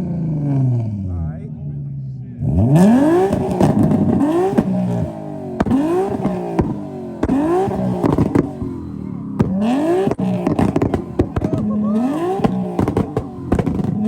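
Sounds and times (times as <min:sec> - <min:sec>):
car engine revving: 0:00.0 - 0:14.0
exhaust cracks: 0:02.2 - 0:14.0.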